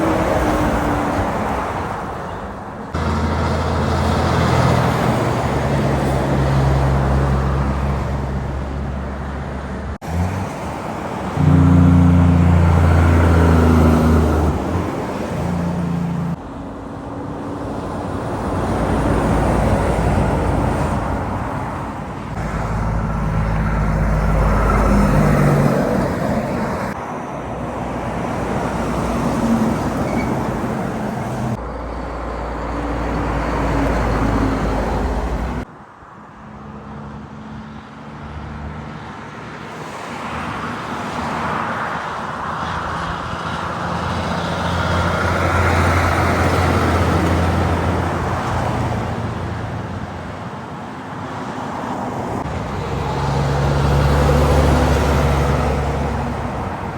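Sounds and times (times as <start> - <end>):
heavy trucks passing: 0.0 - 56.9
vehicle approaching and passing: 2.9 - 56.9.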